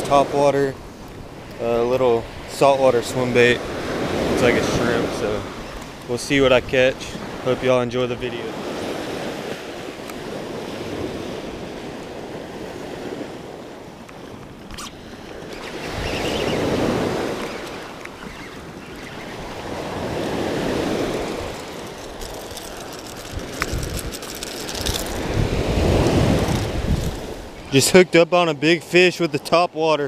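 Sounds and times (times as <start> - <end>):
wind buffeting microphone: 0.0 - 27.8
surf breaking on sandy beach: 1.8 - 29.4.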